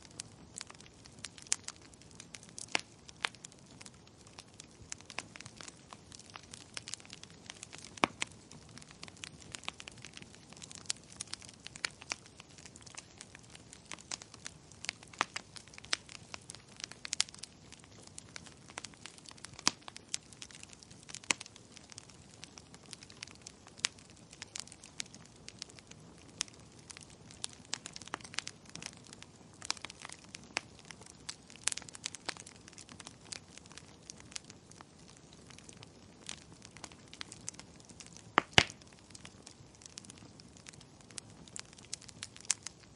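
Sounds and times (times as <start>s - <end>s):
soft steady hiss: 0.0s - 42.9s
wood fire crackling: 0.0s - 42.9s.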